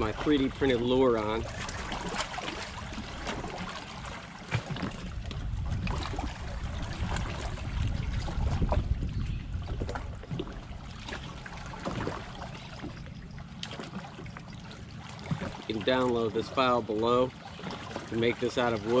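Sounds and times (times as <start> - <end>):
low uneven rumble: 0.0 - 19.0
water lapping and trickling: 0.0 - 19.0.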